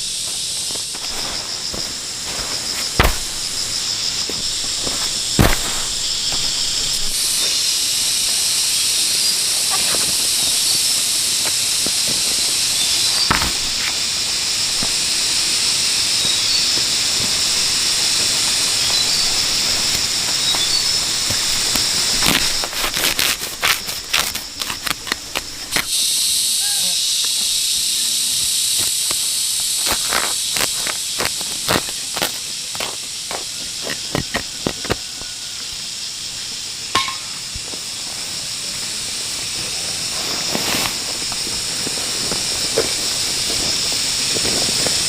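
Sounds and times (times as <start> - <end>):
high-pitched hiss: 0.0 - 45.0.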